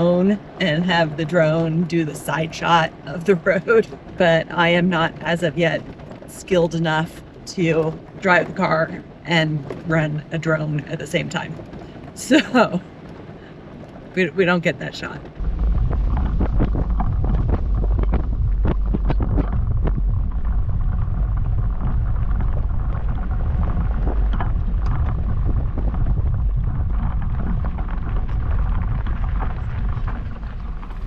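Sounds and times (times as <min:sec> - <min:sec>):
engine and tyres rumbling: 0:00.0 - 0:31.0.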